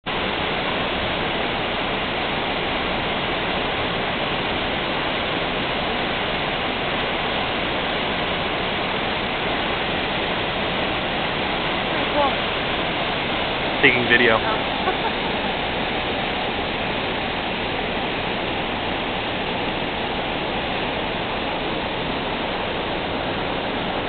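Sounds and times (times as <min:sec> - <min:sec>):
waterfall rushing: 0:00.1 - 0:24.0.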